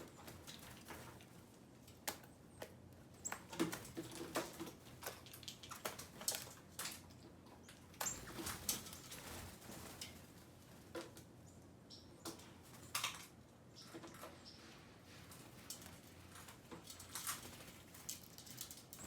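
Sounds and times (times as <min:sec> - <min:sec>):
birds tapping and clicking: 0:00.0 - 0:14.6, 0:15.3 - 0:19.0.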